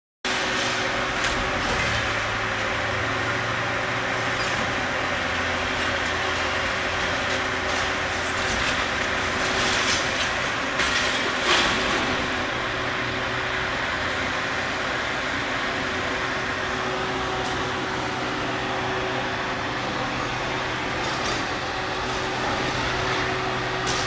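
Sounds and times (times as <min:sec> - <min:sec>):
diesel engine humming: 0:00.4 - 0:24.0.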